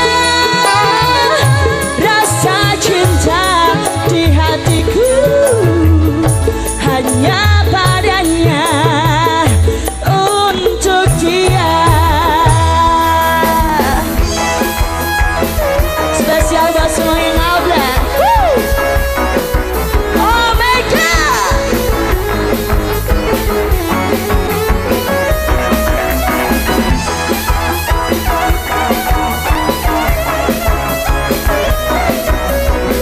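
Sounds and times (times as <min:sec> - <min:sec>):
band playing live: 0:00.0 - 0:33.0.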